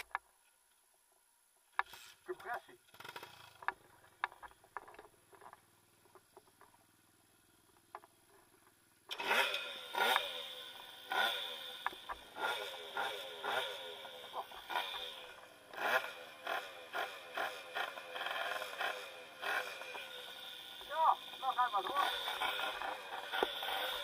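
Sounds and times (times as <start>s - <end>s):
moped engine revving: 1.8s - 6.3s, 9.1s - 24.0s.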